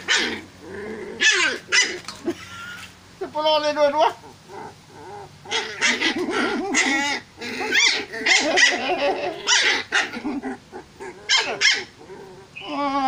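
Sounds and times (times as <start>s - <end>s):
puppies yapping and growling: 0.0s - 3.0s, 4.0s - 13.0s.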